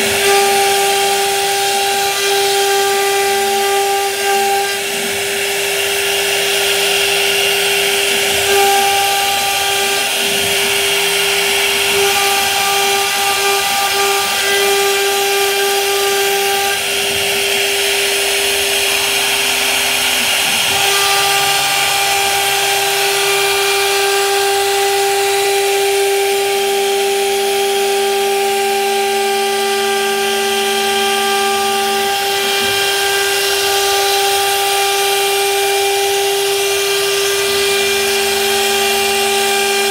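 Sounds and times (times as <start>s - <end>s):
hiss of wood cutting: 0.0s - 39.9s
router spindle whine: 0.0s - 39.9s.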